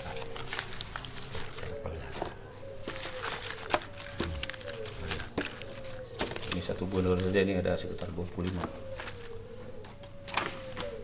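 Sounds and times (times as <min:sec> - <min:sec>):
paper tags rustling and clicking: 0:00.0 - 0:11.0.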